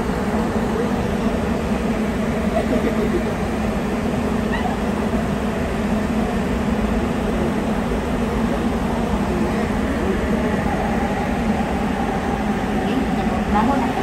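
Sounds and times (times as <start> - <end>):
constant low hum: 0.0 - 14.0
subway train running rumble: 0.0 - 14.0.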